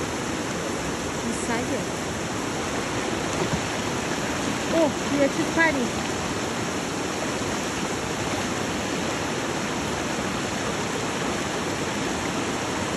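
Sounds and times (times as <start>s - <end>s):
river rushing over rocks: 0.0s - 12.9s.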